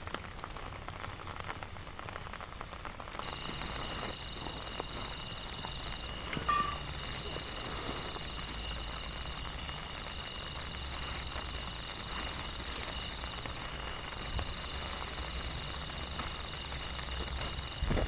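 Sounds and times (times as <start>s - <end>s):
rain falling in forest: 0.0s - 18.0s
high insect drone: 3.2s - 18.0s.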